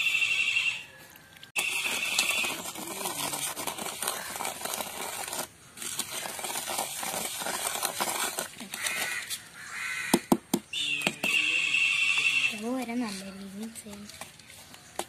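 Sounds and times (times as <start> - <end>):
tool scraping cement on metal: 1.6 - 15.0.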